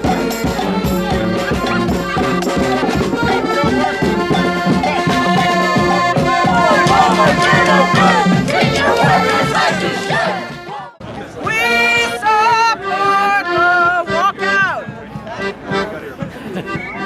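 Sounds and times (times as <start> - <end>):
music with steady beat: 0.0 - 17.0
voices: 0.0 - 17.0.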